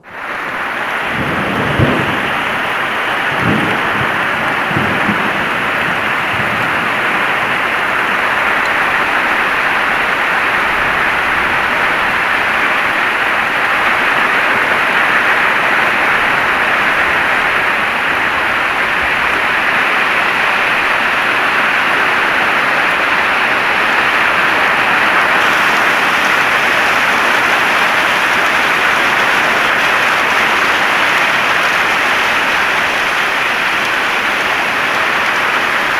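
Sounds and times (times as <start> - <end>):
heavy rain hissing: 0.0 - 35.9.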